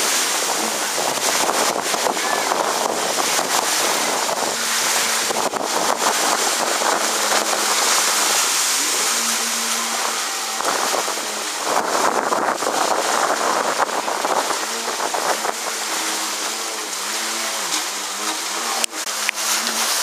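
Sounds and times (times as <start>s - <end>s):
personal watercraft engine droning: 0.0s - 20.0s
wind noise on microphone: 0.0s - 20.0s.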